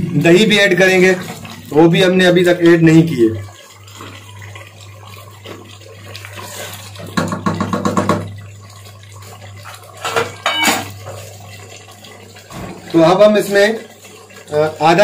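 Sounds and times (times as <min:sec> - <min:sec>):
curry simmering: 0:00.0 - 0:15.0.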